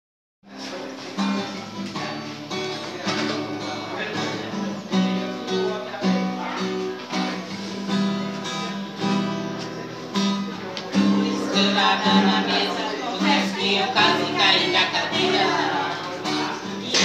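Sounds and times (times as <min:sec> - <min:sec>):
acoustic guitar strumming: 0:00.5 - 0:17.0.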